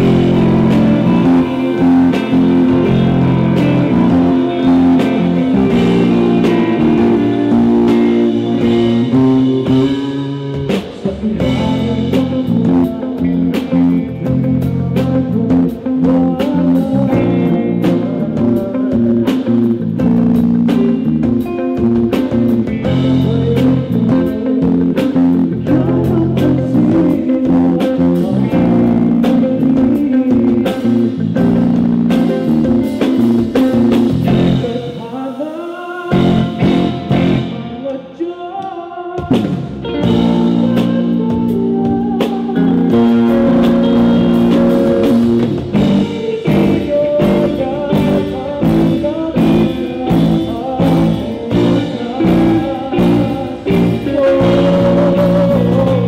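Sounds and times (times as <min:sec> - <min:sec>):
live rock band playing: 0:00.0 - 0:38.3, 0:39.2 - 0:56.0.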